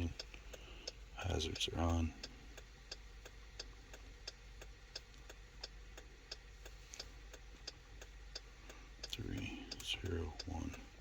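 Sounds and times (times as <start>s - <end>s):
hazard light flasher ticking: 0.0s - 11.0s.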